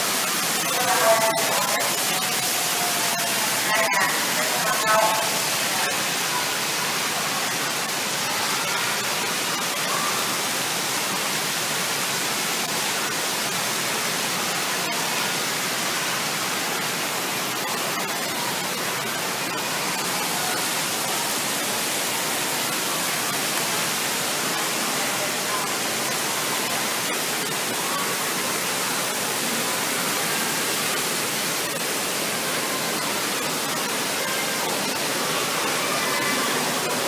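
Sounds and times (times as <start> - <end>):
water jets spraying into pool: 0.0 - 37.0.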